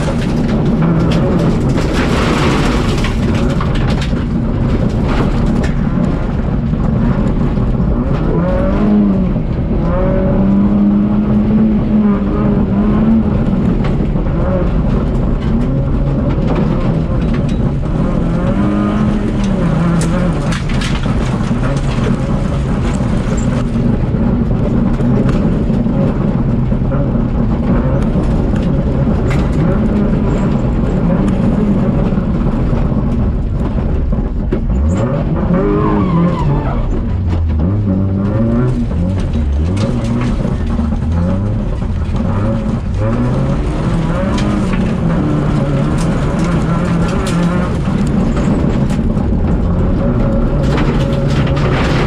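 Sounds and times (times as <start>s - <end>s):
rally car engine revving hard: 0.0s - 52.0s.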